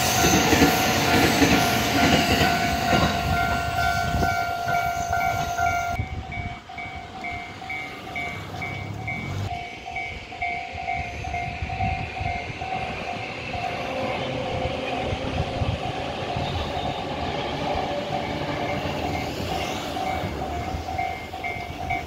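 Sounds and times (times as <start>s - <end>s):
level crossing warning bell: 0.0s - 14.3s, 14.9s - 22.0s
train passing: 0.0s - 22.0s.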